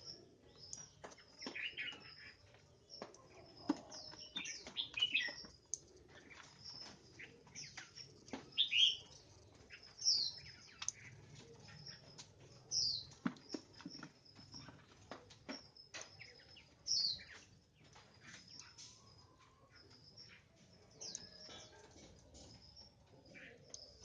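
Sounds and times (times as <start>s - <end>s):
birds chirping and whistling: 0.0s - 24.0s.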